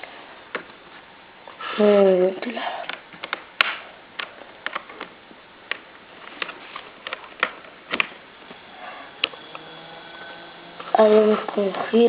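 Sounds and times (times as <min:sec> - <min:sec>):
small fan whine: 0:00.0 - 0:12.0.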